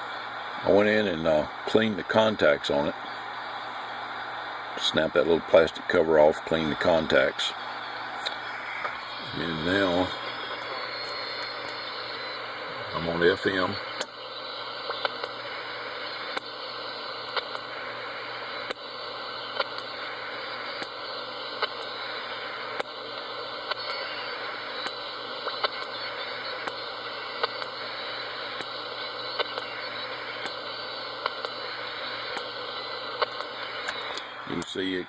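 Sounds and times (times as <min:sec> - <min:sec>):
radio static hiss: 0:00.0 - 0:35.0.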